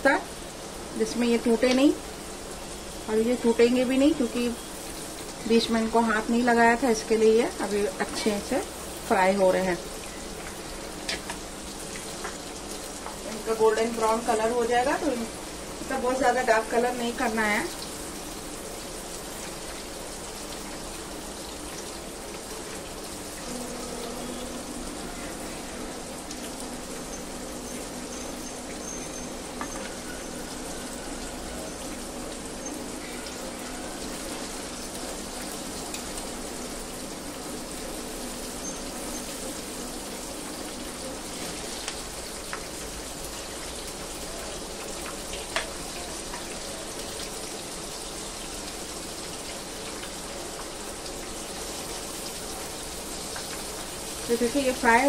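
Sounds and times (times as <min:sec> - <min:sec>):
chicken deep-frying in oil: 0:00.0 - 0:55.0.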